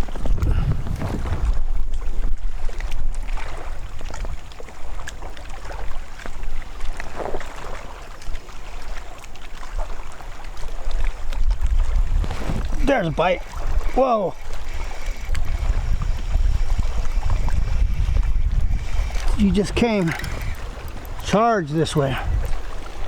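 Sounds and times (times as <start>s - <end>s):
wind buffeting microphone: 0.0s - 8.0s, 9.6s - 23.0s
clicks and knocks from boat: 0.0s - 23.0s.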